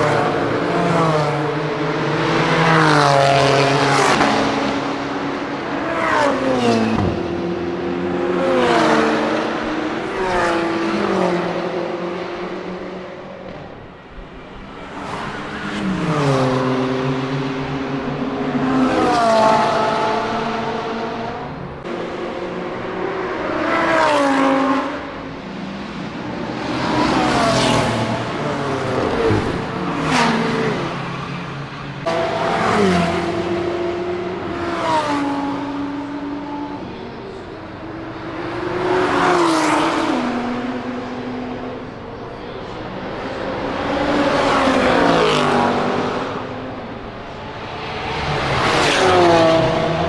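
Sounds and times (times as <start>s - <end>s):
race cars passing at speed: 0.0s - 50.0s.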